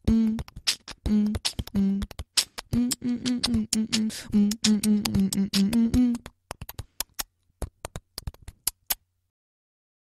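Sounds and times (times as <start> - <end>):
beatboxed percussion: 0.0 - 9.0.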